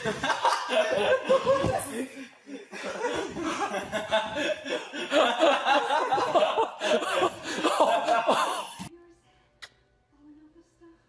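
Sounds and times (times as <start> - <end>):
people laughing hard: 0.0 - 8.9.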